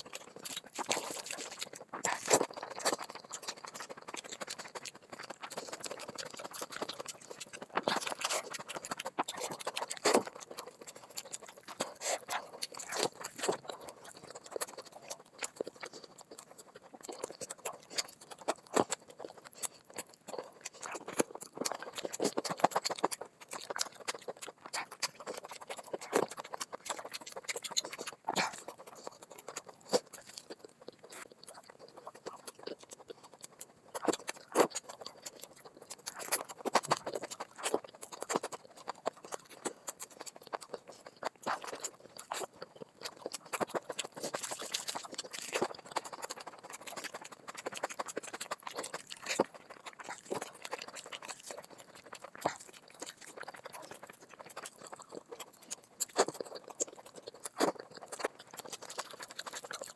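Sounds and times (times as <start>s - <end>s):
wet chewing and mouth smacks: 0.0s - 59.9s.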